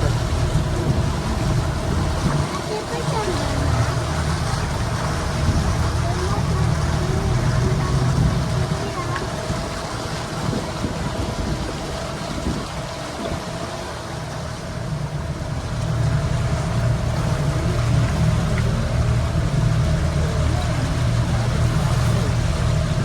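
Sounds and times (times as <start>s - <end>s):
boat engine droning and whining: 0.0s - 23.0s
water noise: 0.0s - 23.0s.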